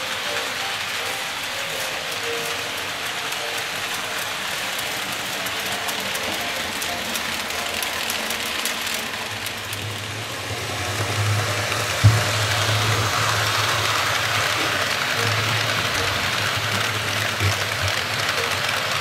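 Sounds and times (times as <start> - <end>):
model train motor hum: 0.0 - 19.0
model trains rolling hiss: 0.0 - 19.0
wheels ticking on track: 0.0 - 19.0.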